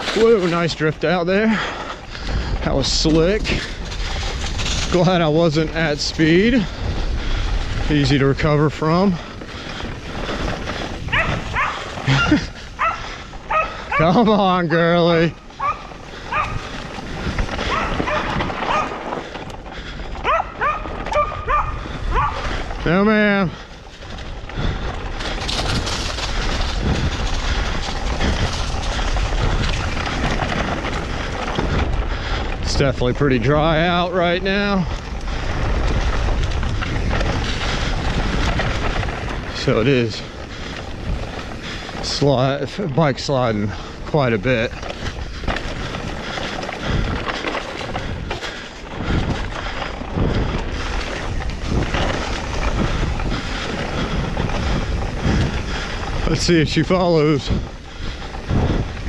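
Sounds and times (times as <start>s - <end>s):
bike rattling over bumps: 0.0s - 59.0s
bike tyres rushing on dirt: 0.0s - 59.0s
wind buffeting microphone: 0.0s - 59.0s.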